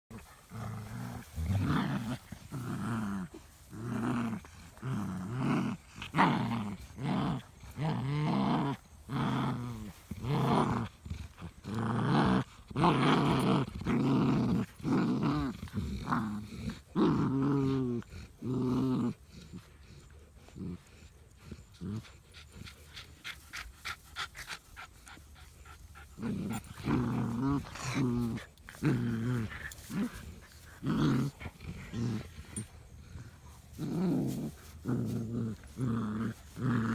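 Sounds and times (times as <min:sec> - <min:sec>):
dogs play-growling: 0:00.1 - 0:36.9.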